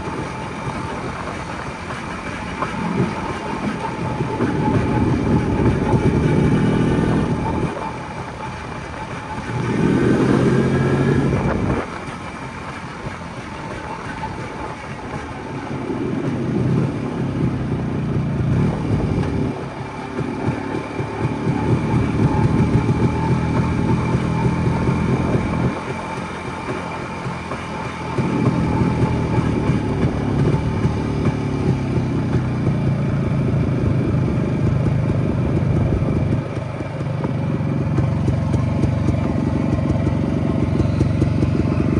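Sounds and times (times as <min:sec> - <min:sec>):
two-stroke motorcycle engine running: 0:00.0 - 0:41.9.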